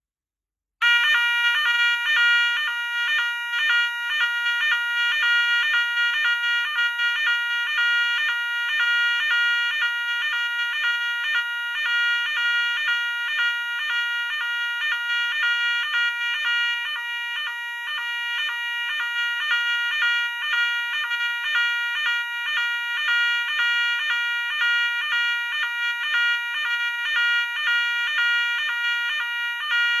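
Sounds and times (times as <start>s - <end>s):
fire alarm two-note signal: 0.8s - 30.0s.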